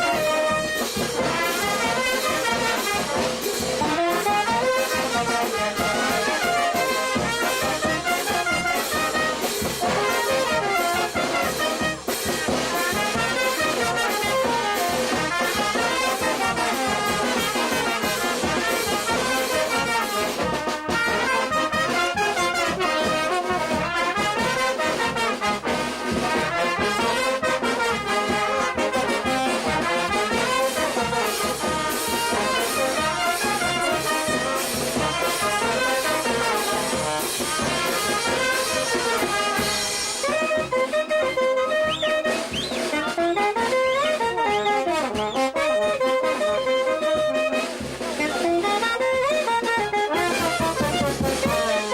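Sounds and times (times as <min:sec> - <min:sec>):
brass band playing: 0:00.0 - 0:51.9.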